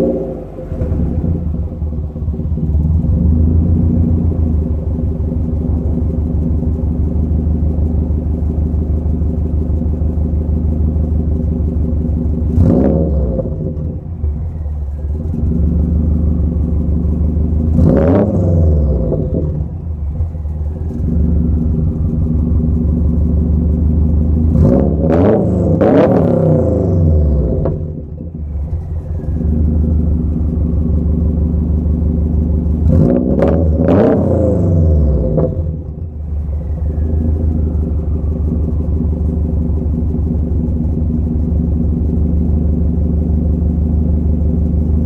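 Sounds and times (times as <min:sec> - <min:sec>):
car engine idling: 0:00.0 - 0:45.0
car engine revving: 0:00.0 - 0:45.0.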